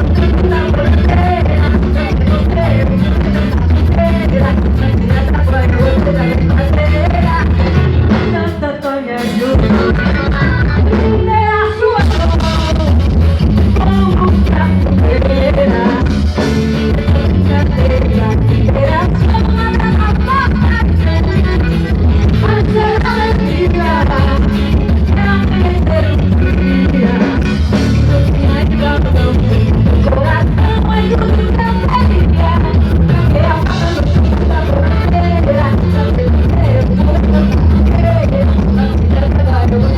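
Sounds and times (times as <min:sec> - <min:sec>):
heavy bass: 0:00.0 - 0:08.7, 0:09.4 - 0:39.9
band playing with singing: 0:00.0 - 0:39.9.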